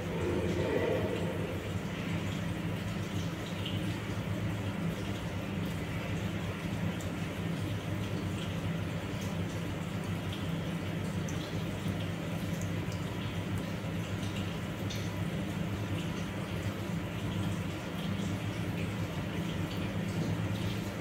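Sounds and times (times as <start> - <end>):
faint trickling water: 0.0 - 21.0
low electrical hum: 0.0 - 21.0.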